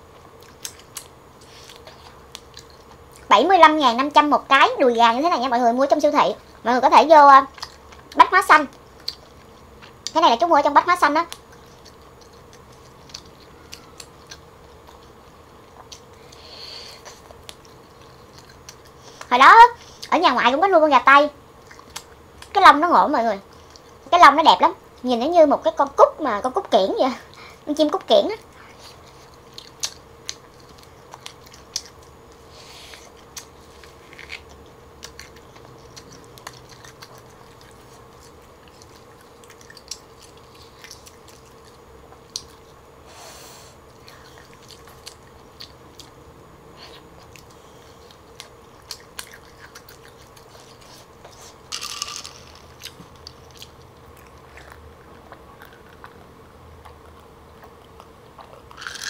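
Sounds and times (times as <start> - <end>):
chewing meat: 0.0 - 4.2, 5.4 - 20.6, 21.5 - 22.8, 27.3 - 43.0, 43.8 - 59.0.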